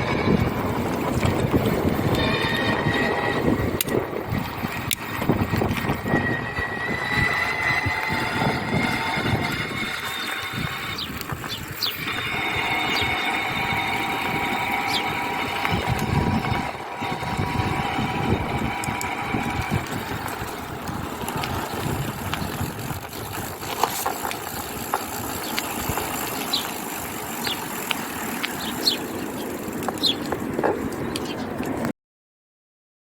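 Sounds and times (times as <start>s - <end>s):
rumbling noise: 0.0s - 27.3s
electric motor whine: 0.0s - 29.3s.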